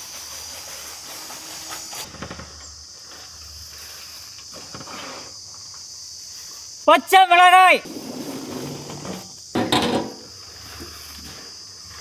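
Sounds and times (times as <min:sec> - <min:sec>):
high-pitched insect buzz: 0:00.0 - 0:06.8, 0:07.9 - 0:12.0.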